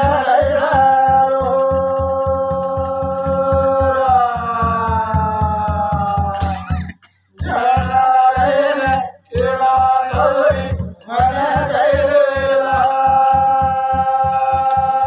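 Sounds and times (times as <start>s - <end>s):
large drums beaten: 0.0s - 15.0s
men singing devotional song: 0.0s - 15.0s.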